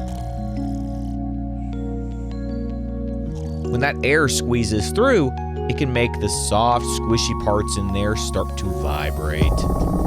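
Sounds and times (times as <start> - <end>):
slow ambient music chords: 0.0 - 10.0.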